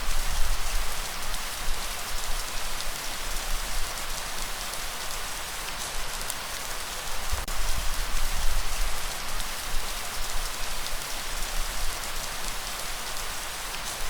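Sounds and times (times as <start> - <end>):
light rain pattering: 0.0 - 14.0.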